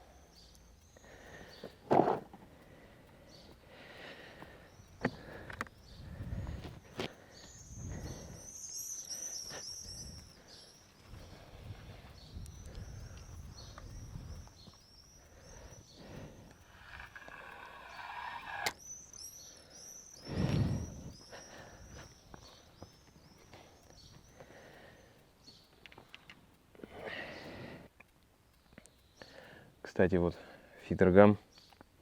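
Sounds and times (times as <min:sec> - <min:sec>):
small birds chirping: 0:00.0 - 0:32.0
sharp clicks: 0:00.2 - 0:01.9, 0:02.5 - 0:29.5.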